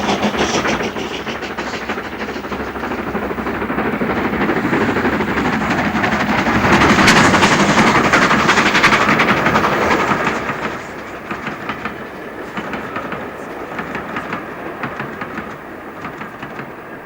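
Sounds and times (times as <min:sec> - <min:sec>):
rapid clattering: 0:00.0 - 0:17.0
steam locomotive passing: 0:00.0 - 0:17.0.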